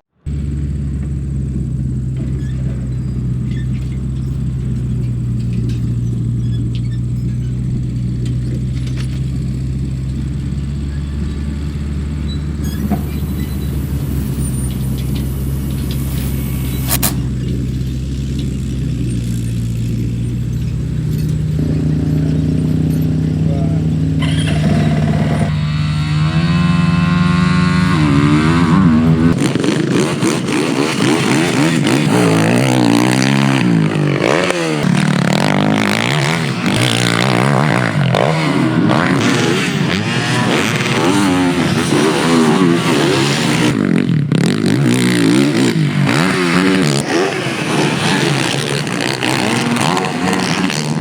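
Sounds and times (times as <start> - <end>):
motocross bike engine revving: 0.1 - 51.0.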